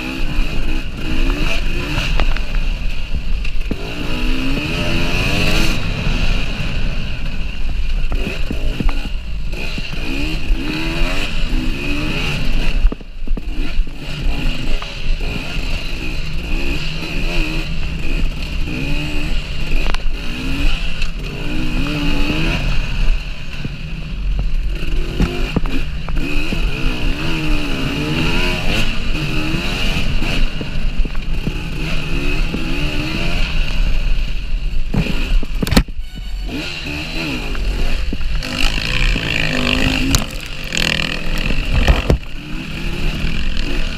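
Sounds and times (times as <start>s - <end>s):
two-stroke engine revving: 0.0s - 43.9s.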